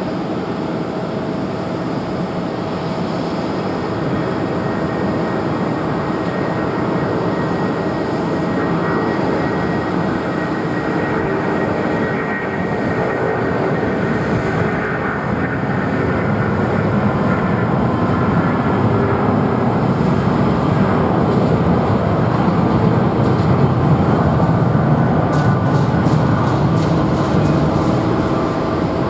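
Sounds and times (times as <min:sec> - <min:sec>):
faint steady engine whine: 0:00.0 - 0:29.0
jet engines rushing: 0:00.0 - 0:29.0.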